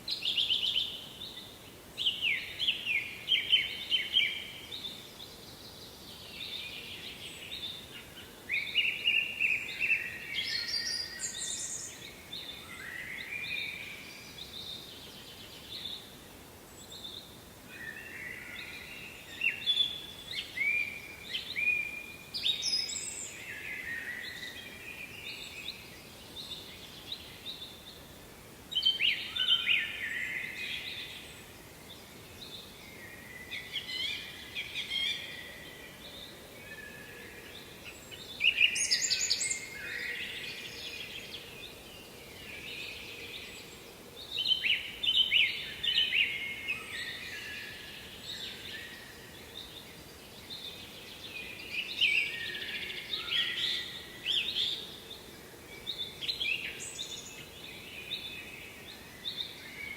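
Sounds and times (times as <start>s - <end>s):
faint background hiss: 0.0s - 59.9s
songbirds singing: 0.0s - 59.9s.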